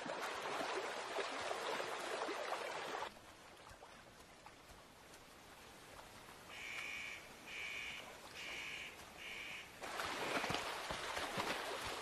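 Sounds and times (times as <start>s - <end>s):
splashing rushing water: 0.0s - 12.0s.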